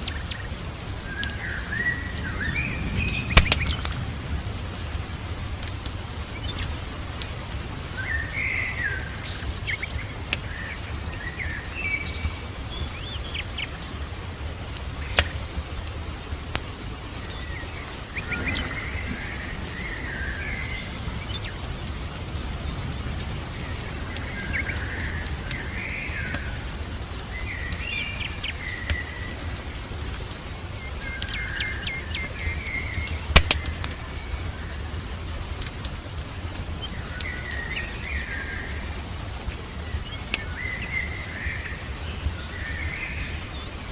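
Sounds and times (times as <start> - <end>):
birds chirping: 0.0 - 43.9
crackling fire pops: 0.0 - 43.9
rain hissing: 0.0 - 43.9.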